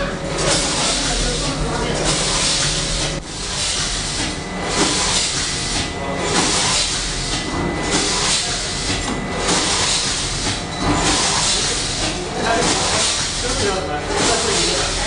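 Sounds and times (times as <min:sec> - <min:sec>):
packaging machine running: 0:00.0 - 0:15.0.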